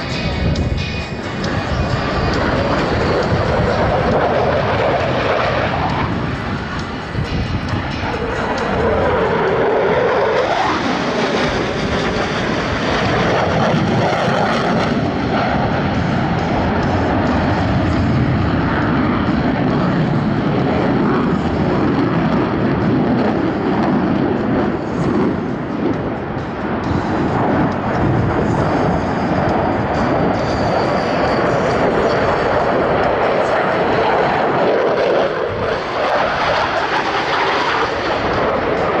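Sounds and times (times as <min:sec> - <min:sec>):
jet engines roaring past: 0:00.0 - 0:39.0.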